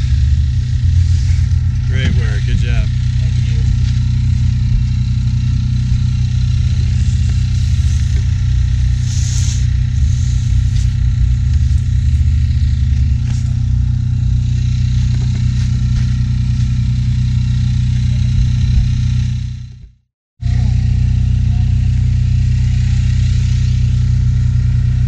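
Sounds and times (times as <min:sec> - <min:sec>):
generator engine droning: 0:00.0 - 0:25.0.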